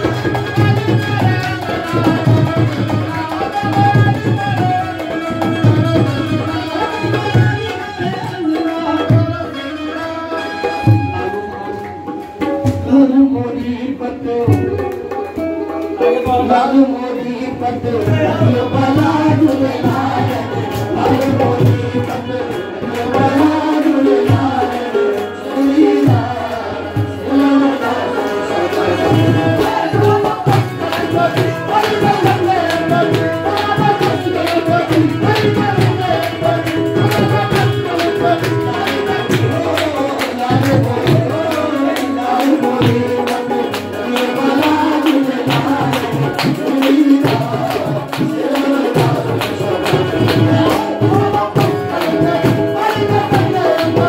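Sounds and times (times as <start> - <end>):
hand drums playing beat: 0.0 - 54.0
harmonium: 0.0 - 54.0
men singing into microphones: 0.0 - 54.0.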